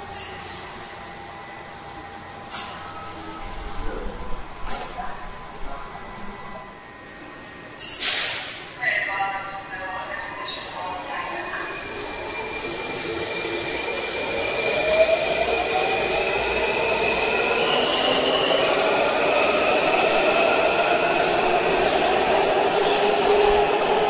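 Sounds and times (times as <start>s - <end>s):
subway train accelerating: 0.0s - 24.0s.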